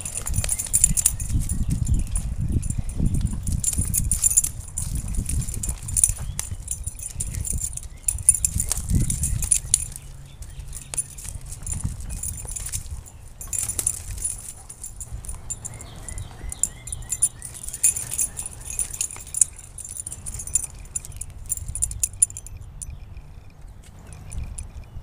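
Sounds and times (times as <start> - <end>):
dog chain collar jingling: 0.0 - 25.0.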